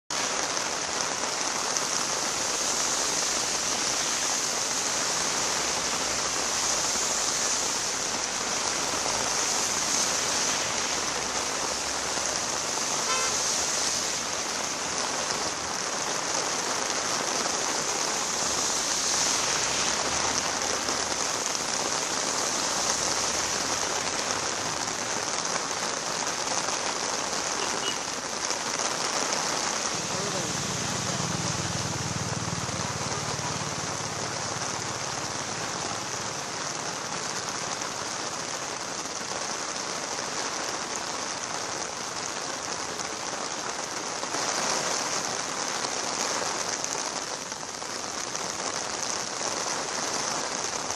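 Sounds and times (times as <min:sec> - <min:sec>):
rain on road and trees: 0:00.0 - 0:50.9.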